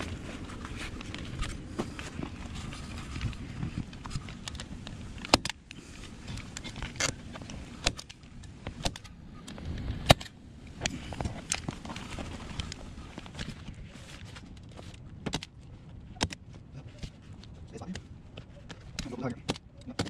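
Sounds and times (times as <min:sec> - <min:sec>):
low rumble of handling noise: 0:00.0 - 0:20.0.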